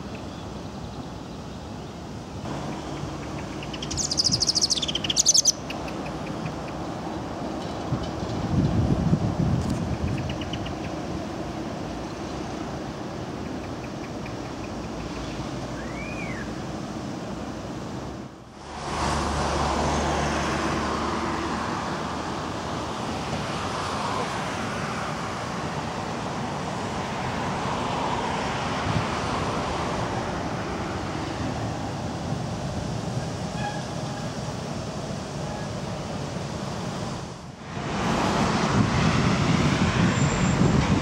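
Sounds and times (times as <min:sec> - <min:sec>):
road traffic noise: 0:00.0 - 0:41.0
trams running slowly: 0:00.0 - 0:41.0.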